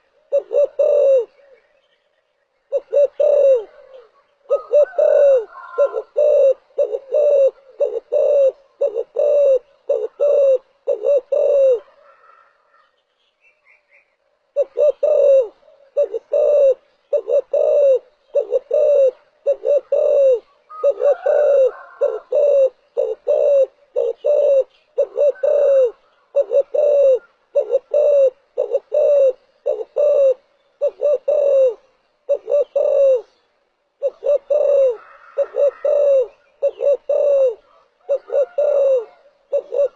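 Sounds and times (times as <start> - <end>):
dove cooing: 0.0 - 1.8, 2.6 - 12.9, 14.5 - 33.4, 34.0 - 39.9.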